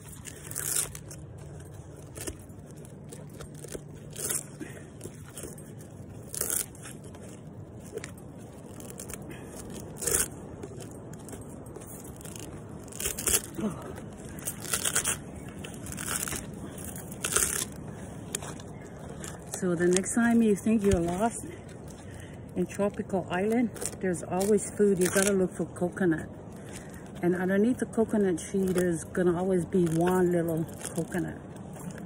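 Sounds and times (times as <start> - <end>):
coconut husk ripping: 0.0 - 25.9, 26.5 - 32.0.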